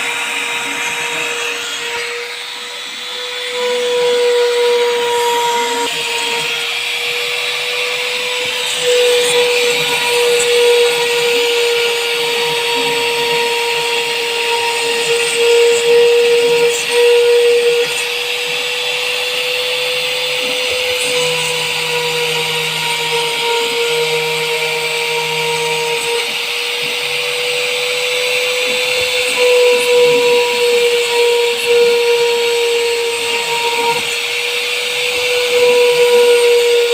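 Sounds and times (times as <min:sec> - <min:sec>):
cnc router spindle whine: 0:00.0 - 0:36.9.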